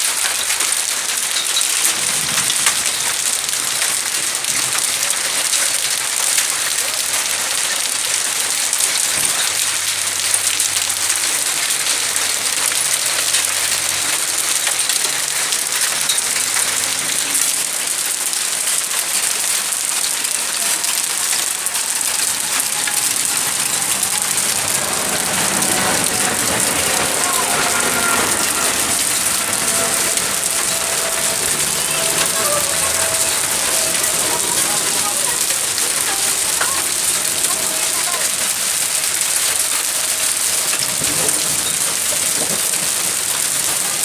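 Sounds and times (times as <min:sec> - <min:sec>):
hail and rain pelting: 0:00.0 - 0:44.0
faint voices: 0:02.0 - 0:44.0.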